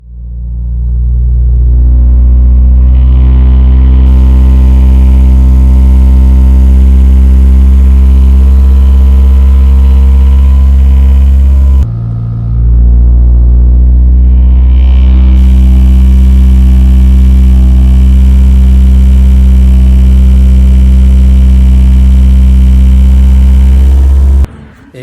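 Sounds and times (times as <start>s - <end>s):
car engine droning with buzzing vibration: 0.0s - 25.0s.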